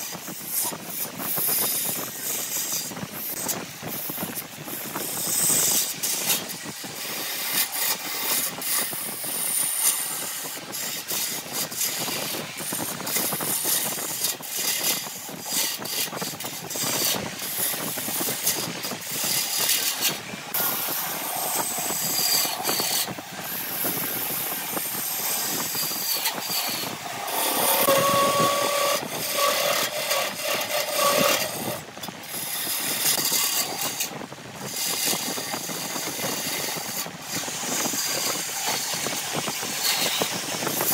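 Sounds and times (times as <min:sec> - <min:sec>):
lathe gouge scraping wood: 0:00.2 - 0:40.9.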